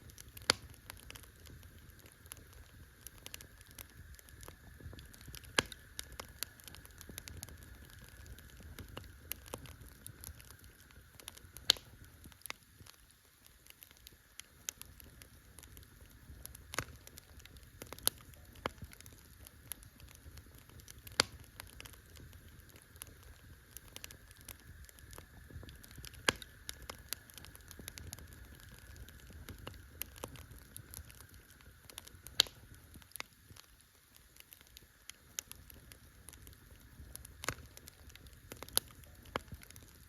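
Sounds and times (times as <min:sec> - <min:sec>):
campfire crackling: 0:00.0 - 0:40.0
fire popping: 0:00.0 - 0:40.0
low rumble of fire: 0:00.0 - 0:40.0.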